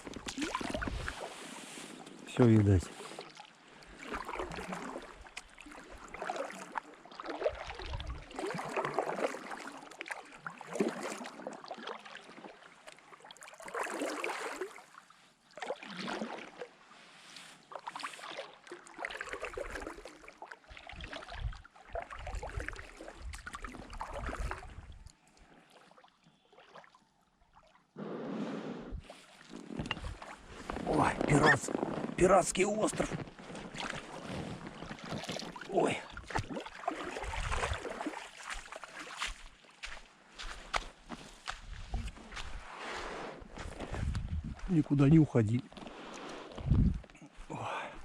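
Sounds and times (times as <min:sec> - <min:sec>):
paddle strokes in water: 0:00.0 - 0:27.0, 0:27.6 - 0:45.0, 0:45.7 - 0:48.0.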